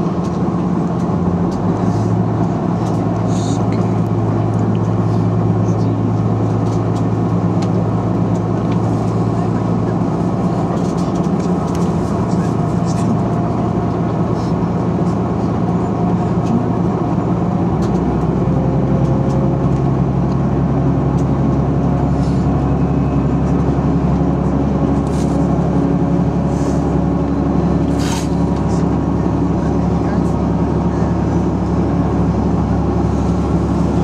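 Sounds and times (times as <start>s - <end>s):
diesel railcar engine hum: 0.0s - 34.0s.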